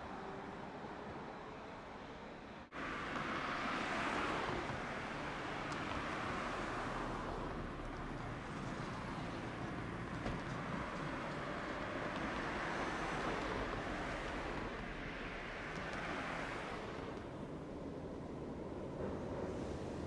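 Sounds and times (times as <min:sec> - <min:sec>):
distant street traffic: 0:00.0 - 0:20.0.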